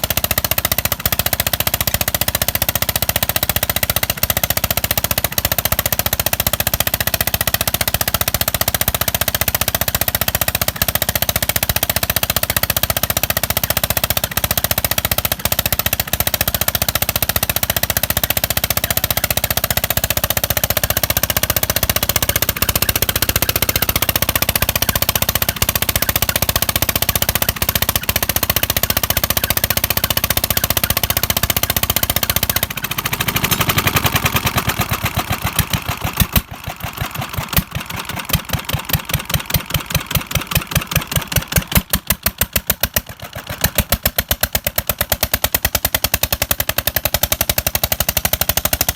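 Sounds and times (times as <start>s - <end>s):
diesel engine driving water pump: 0.0s - 48.9s.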